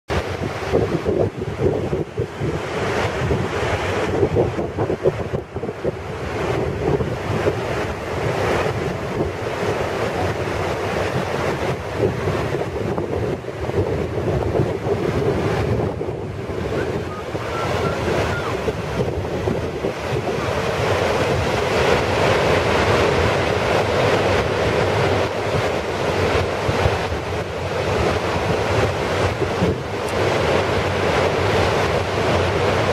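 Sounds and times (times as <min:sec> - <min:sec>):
wind buffeting microphone: 0:00.1 - 0:32.9
waterfall rushing: 0:02.3 - 0:32.9.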